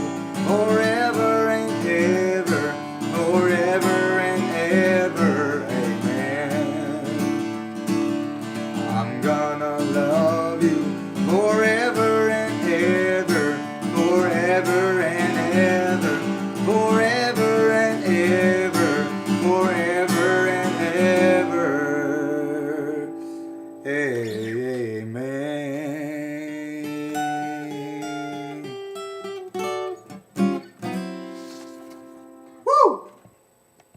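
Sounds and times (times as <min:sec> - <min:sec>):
strummed acoustic guitar: 0:00.0 - 0:32.6.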